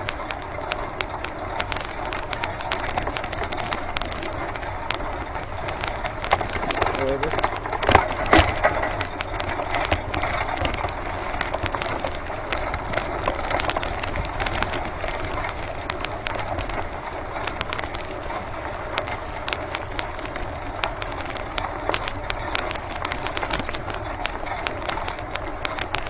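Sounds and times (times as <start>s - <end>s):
cart wheels rolling on dirt: 0.0s - 26.0s
small clicks and rattles: 0.0s - 26.0s.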